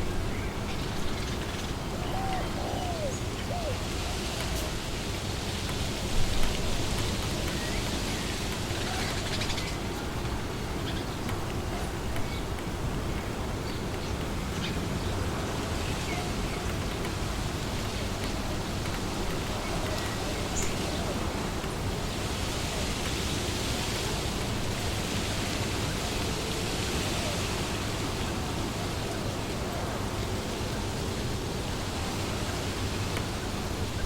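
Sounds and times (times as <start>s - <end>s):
wind blowing through trees: 0.0s - 34.0s.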